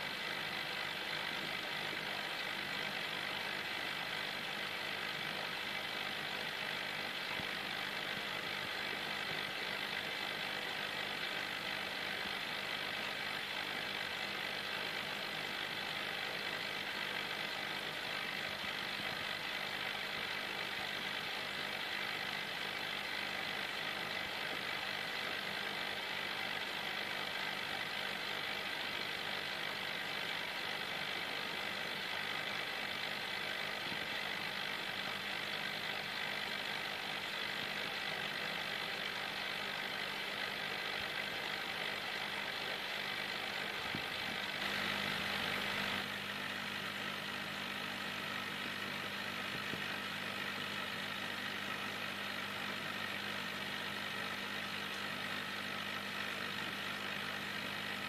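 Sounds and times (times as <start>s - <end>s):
aquarium pump hum: 0.0s - 58.0s.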